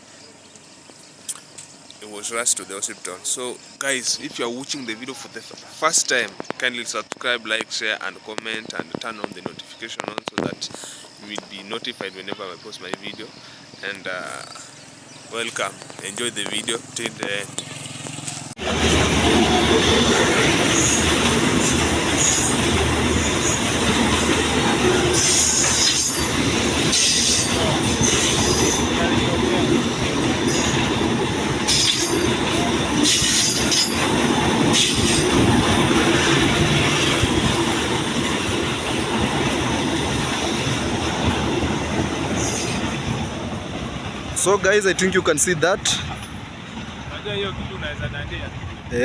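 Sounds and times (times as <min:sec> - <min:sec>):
train wheels rumbling on rails: 0:00.8 - 0:49.0.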